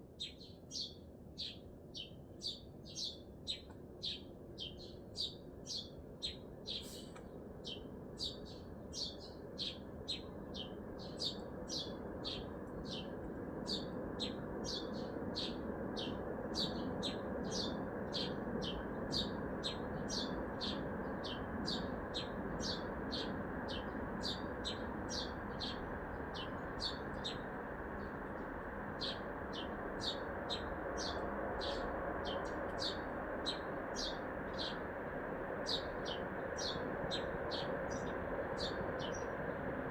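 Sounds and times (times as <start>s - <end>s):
city traffic hum: 2.8s - 39.9s.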